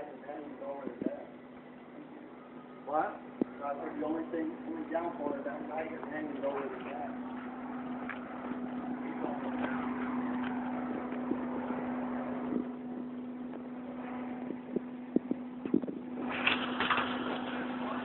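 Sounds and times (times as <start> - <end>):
truck engine running: 1.4 - 18.0.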